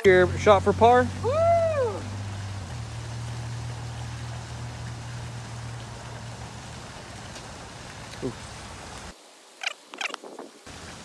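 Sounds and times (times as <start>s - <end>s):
road traffic hum and hiss: 0.0s - 11.0s.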